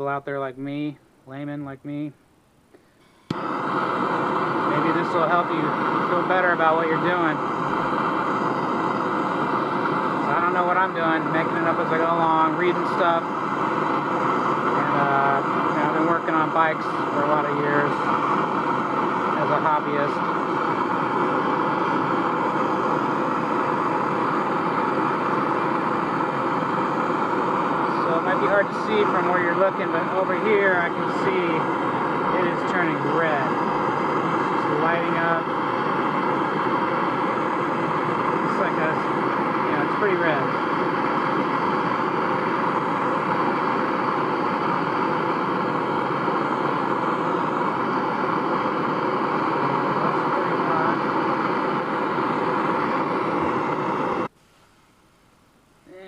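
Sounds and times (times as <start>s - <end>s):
gas torch flame: 3.0s - 55.1s.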